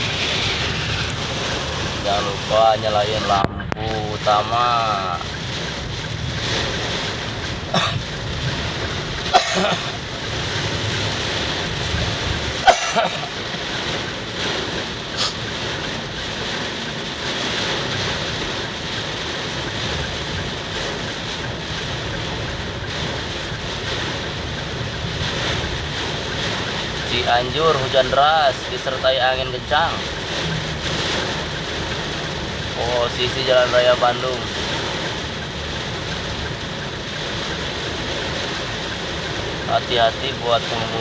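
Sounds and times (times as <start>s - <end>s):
heavy rain: 0.0s - 41.0s.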